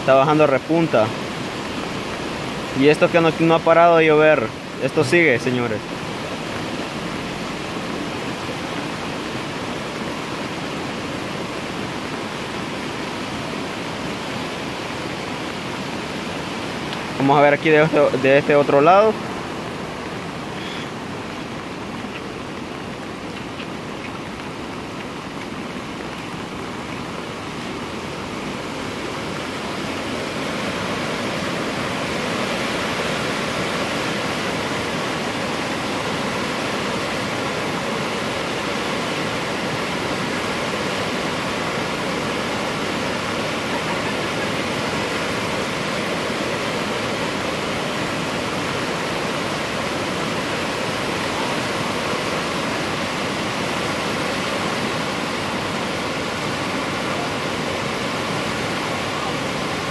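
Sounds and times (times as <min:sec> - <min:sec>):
falling rain: 0:00.0 - 0:59.9
flooding creek rushing: 0:00.0 - 0:59.9.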